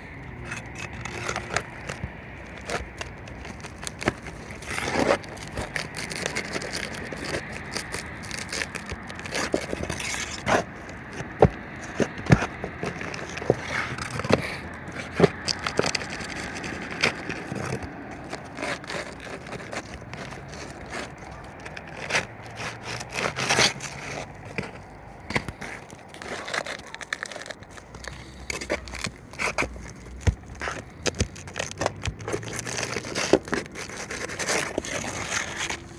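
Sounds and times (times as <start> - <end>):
hand tools scraping roof shingles: 0.0 - 35.9.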